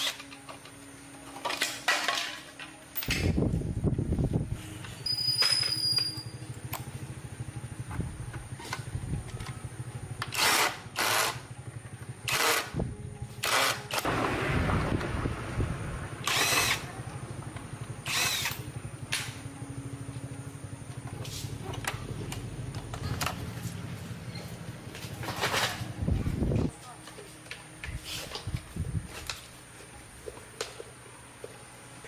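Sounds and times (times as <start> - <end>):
low mechanical drone: 2.6 - 32.0.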